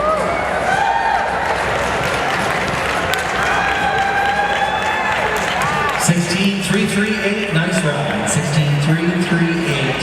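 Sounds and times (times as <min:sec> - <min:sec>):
crowd cheering and clapping: 0:00.0 - 0:08.4.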